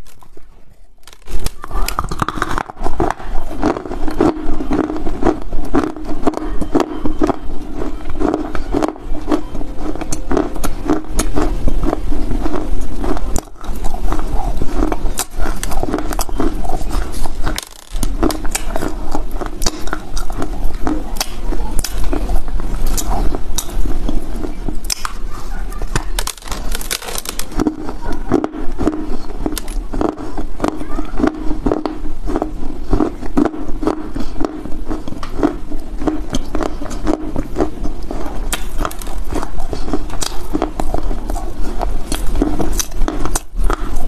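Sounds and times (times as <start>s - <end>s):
crunchy chewing of clay: 0.0s - 44.0s.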